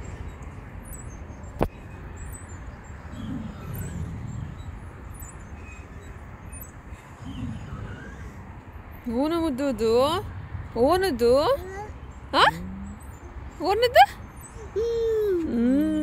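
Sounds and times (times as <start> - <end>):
low rumble of distant traffic: 0.0 - 16.0.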